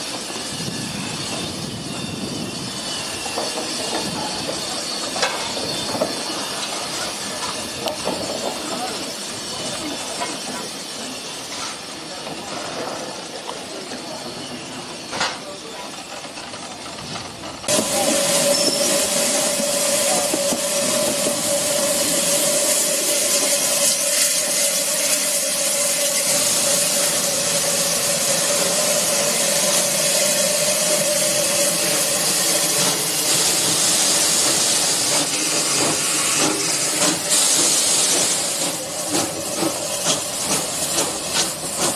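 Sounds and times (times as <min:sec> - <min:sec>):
steam locomotive hissing: 0:00.0 - 0:41.9.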